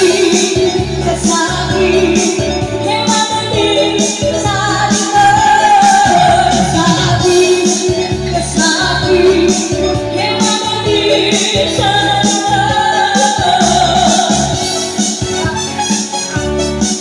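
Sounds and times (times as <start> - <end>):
person singing into microphone: 0.0 - 16.4
karaoke backing track with beat: 0.0 - 17.0.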